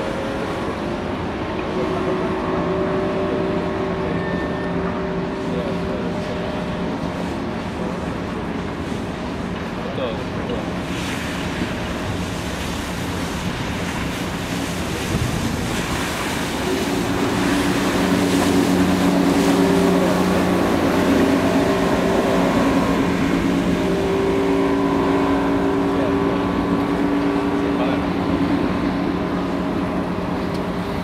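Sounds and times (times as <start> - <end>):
higher steady engine note: 0.0 - 11.2, 11.9 - 31.0
motorboat engine running: 0.0 - 31.0
water noise: 0.0 - 31.0
wind: 0.0 - 31.0.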